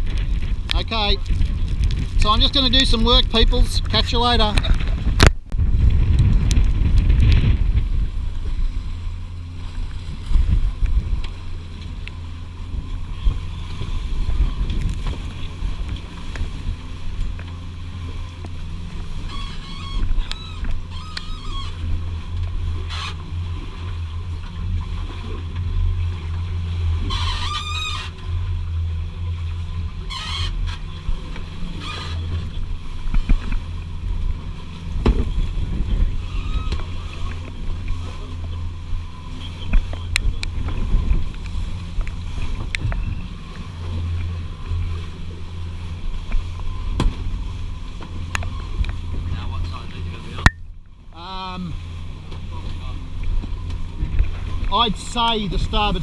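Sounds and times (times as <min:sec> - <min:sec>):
boat motor droning: 0:00.0 - 0:56.0.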